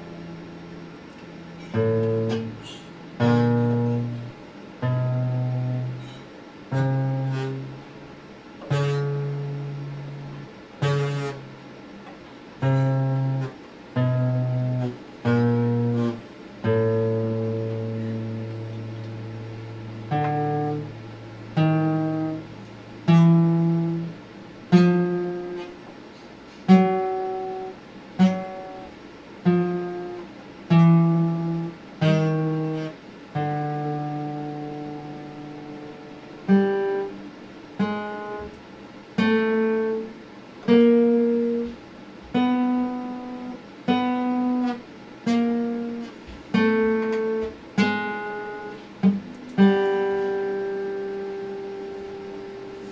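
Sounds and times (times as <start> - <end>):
acoustic guitar chords ringing: 0.0 - 52.9.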